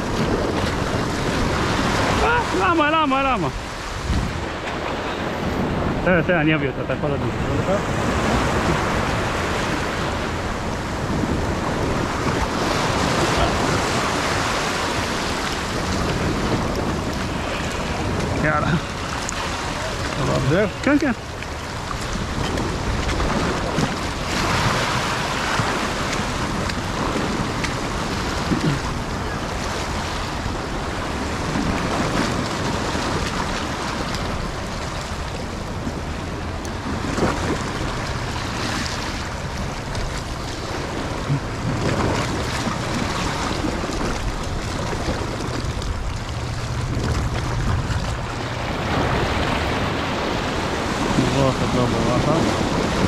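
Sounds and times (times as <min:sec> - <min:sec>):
sea waves washing in: 0:00.0 - 0:53.0
wind buffeting the microphone: 0:00.0 - 0:53.0.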